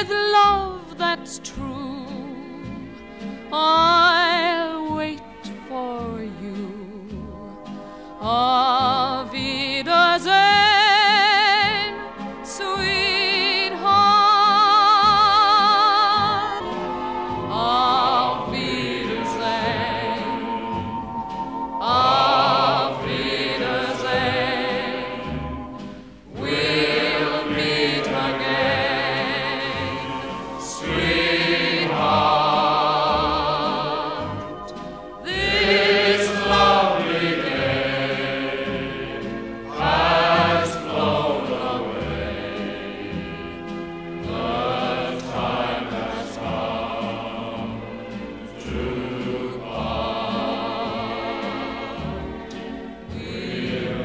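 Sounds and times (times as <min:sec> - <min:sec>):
choir singing: 0:00.0 - 0:00.4, 0:08.3 - 0:54.0
orchestral accompaniment: 0:00.0 - 0:54.0.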